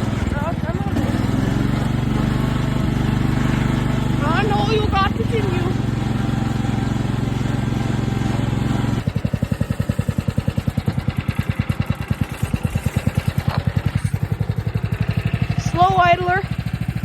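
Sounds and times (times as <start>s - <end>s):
riding mower engine chugging: 0.0s - 17.0s.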